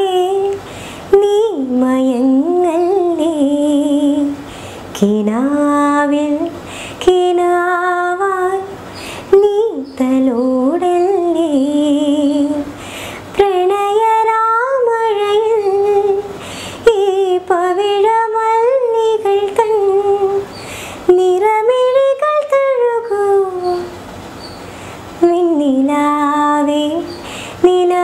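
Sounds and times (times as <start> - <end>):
woman singing unaccompanied: 0.0 - 24.1, 25.1 - 28.0.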